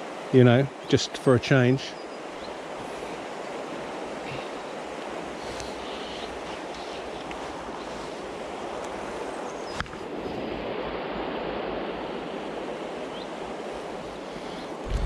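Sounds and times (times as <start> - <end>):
river water rushing over stones: 0.0 - 15.0.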